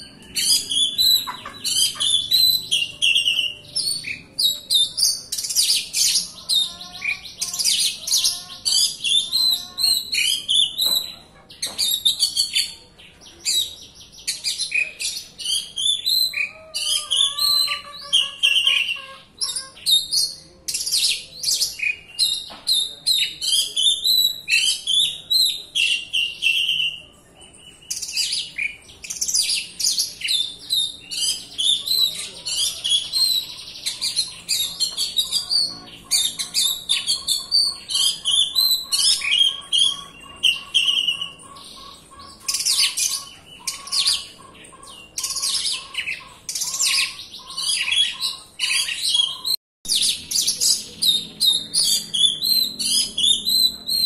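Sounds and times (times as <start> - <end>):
bird singing varied chirps and trills: 0.0 - 54.0.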